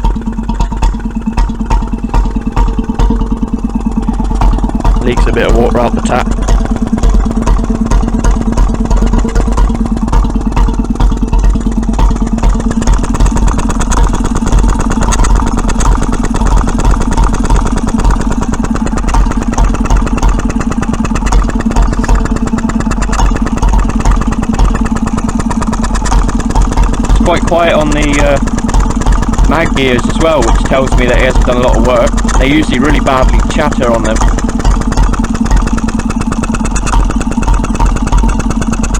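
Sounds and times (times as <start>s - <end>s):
stationary engine running: 0.0s - 38.9s.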